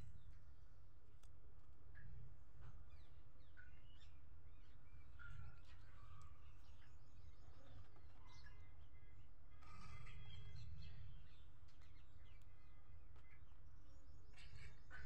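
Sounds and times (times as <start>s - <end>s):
birds chirping: 1.9s - 15.0s.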